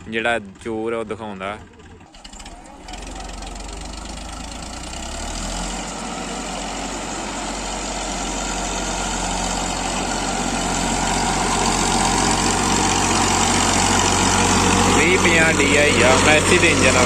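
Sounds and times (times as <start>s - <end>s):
tractor diesel engine labouring: 0.0s - 17.0s.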